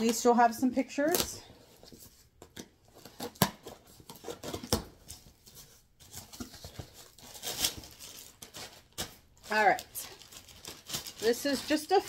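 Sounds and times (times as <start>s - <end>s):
packaging rustling: 1.6s - 12.0s.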